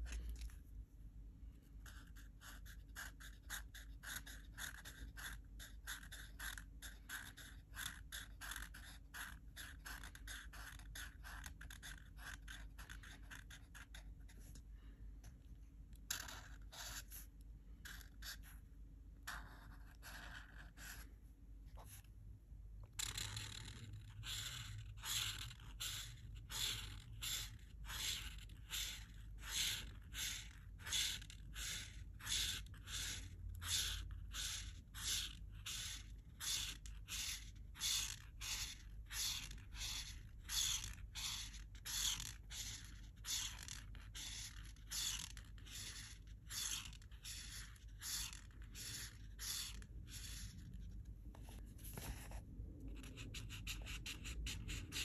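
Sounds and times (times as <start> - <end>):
marker scraping across paper: 1.8 - 14.6, 15.9 - 22.2, 22.8 - 55.0.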